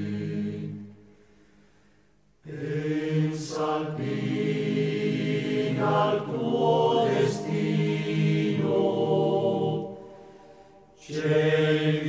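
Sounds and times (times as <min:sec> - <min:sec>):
music with chanting voices: 0:00.0 - 0:12.0.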